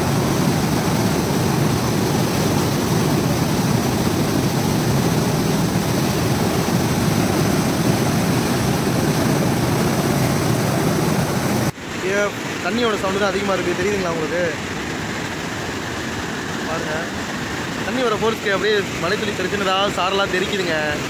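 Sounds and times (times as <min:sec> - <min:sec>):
river water roaring at a dam: 0:00.0 - 0:21.0.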